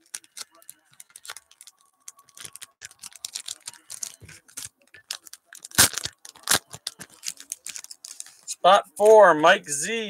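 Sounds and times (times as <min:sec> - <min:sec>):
plastic card sleeves crinkling: 0:00.0 - 0:08.5.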